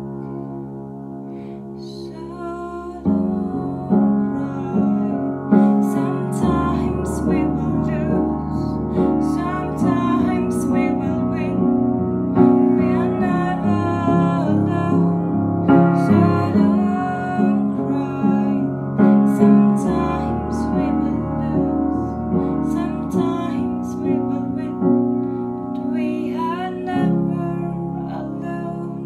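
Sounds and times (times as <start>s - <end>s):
piano chords: 0.0s - 29.0s
woman singing: 1.8s - 29.0s.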